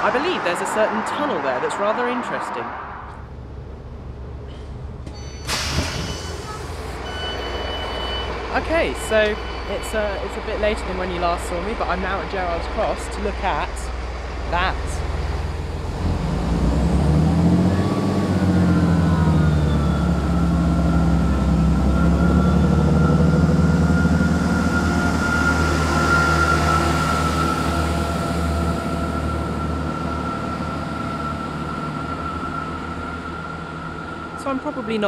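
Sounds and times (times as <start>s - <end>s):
high train whine: 2.7s - 35.0s
diesel train engine revving: 2.8s - 35.0s.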